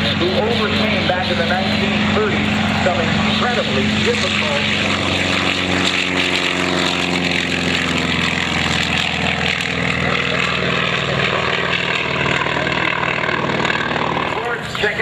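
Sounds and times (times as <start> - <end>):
helicopter drone: 0.0 - 15.0.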